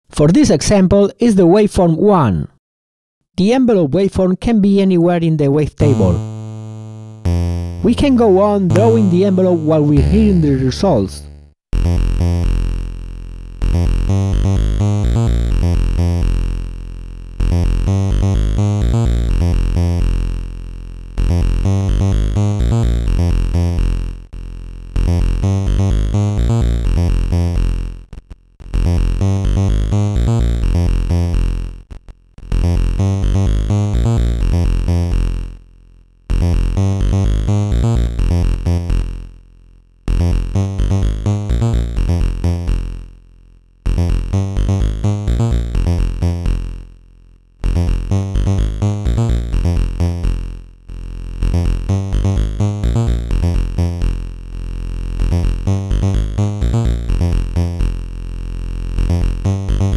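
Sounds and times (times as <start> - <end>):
bass-heavy synth notes: 5.8 - 31.8, 32.4 - 35.5, 36.3 - 39.2, 40.1 - 43.0, 43.9 - 46.9, 47.6 - 59.9.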